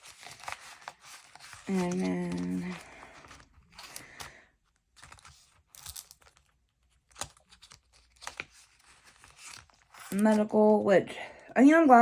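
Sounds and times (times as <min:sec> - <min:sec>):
paper rustling: 0:00.0 - 0:10.5.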